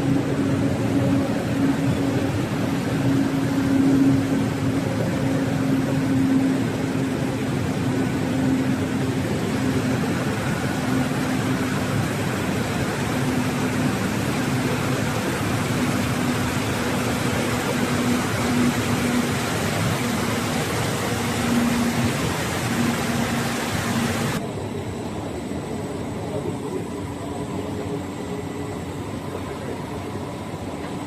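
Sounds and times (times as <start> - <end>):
machine and air noise rushing: 0.0 - 25.1.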